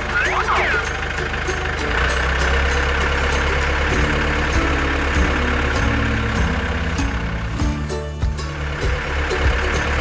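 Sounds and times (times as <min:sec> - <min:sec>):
music: 0:00.0 - 0:10.0
vehicle engine running: 0:00.0 - 0:10.0.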